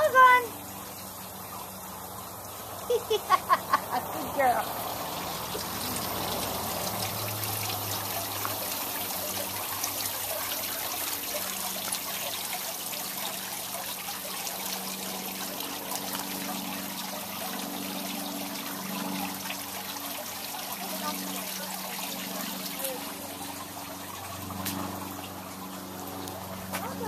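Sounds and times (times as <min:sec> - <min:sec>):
fountain water trickling and splashing: 0:00.0 - 0:27.0.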